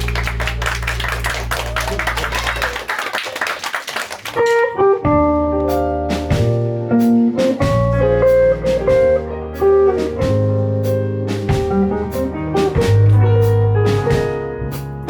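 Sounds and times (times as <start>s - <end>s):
live jazz band music: 0.0s - 2.2s, 4.4s - 15.0s.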